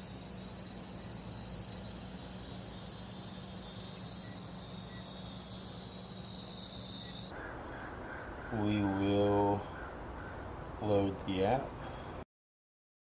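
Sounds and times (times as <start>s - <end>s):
insects chirping: 0.0s - 12.1s
low steady hum: 0.0s - 12.2s.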